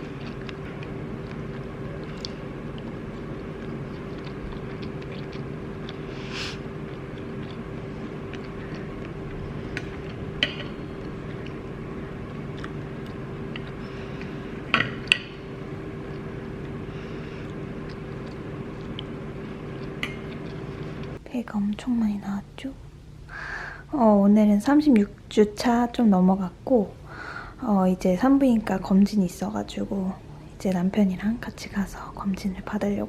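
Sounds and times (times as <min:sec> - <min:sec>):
low hum with held tone: 0:00.0 - 0:33.0.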